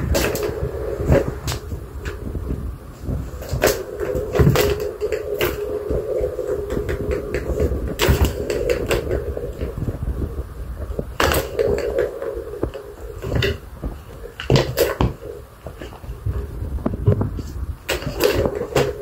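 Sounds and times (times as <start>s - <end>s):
plastic balls rolling rattle: 0.0s - 19.0s.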